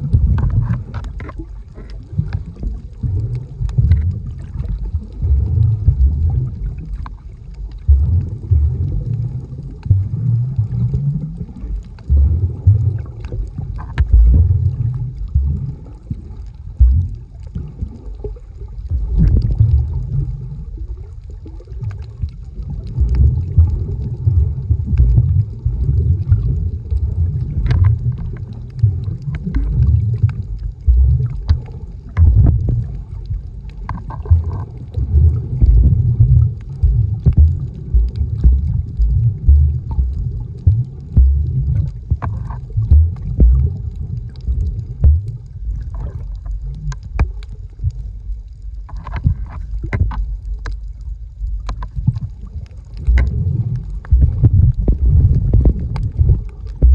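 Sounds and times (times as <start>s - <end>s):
muffled underwater water sloshing: 0.0s - 56.9s
faint clicks: 0.1s - 9.9s, 13.0s - 56.9s.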